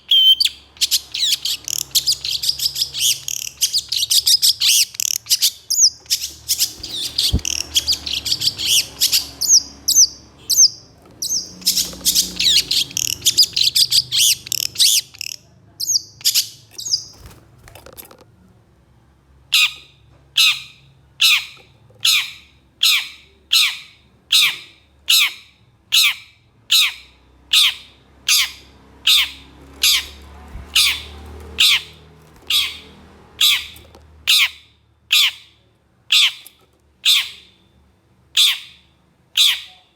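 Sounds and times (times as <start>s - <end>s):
bird chattering song: 0.0s - 17.4s, 19.5s - 37.7s, 38.3s - 39.9s
harsh down-slurred bird calls: 0.0s - 17.4s, 19.5s - 39.9s.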